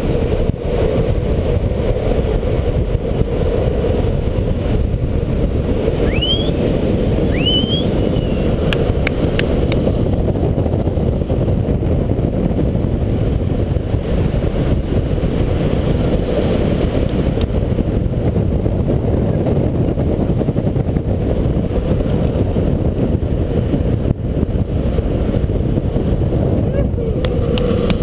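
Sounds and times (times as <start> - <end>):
skateboard wheels rolling on asphalt: 0.0 - 6.0, 7.9 - 28.0
wind buffeting microphone: 0.0 - 28.0.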